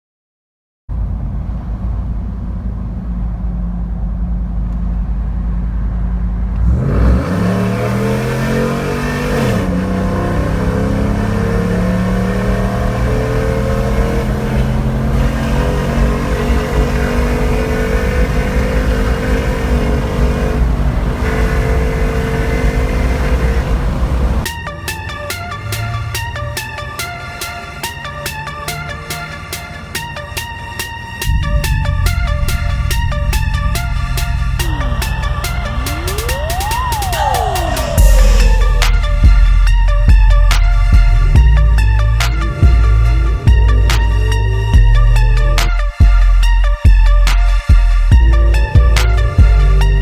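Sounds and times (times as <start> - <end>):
truck exhaust rumble accelerating: 0.9 - 50.0.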